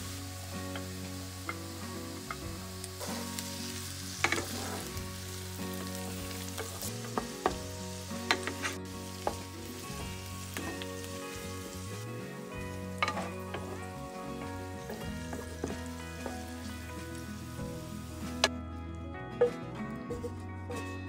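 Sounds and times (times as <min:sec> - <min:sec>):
vegetables sizzling in oil: 0:00.0 - 0:18.5.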